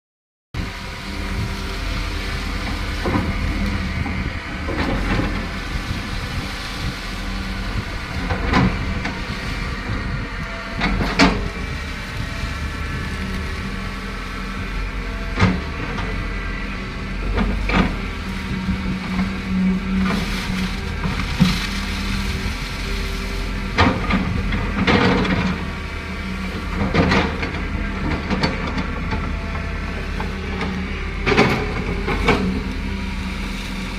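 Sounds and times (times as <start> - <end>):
excavator diesel engine running: 0.6 - 33.9.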